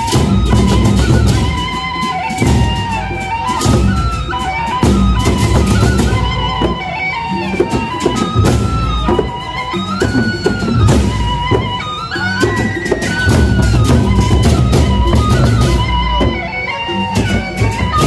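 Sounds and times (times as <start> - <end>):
barrel drums beating: 0.0 - 18.0
sliding sustained melody: 0.0 - 18.0.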